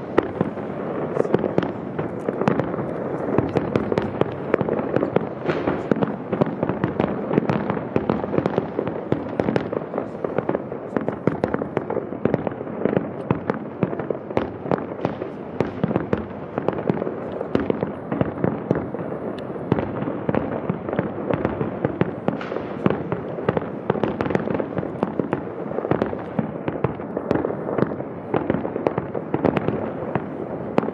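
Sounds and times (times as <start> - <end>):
firework bangs and crackling: 0.0 - 30.9.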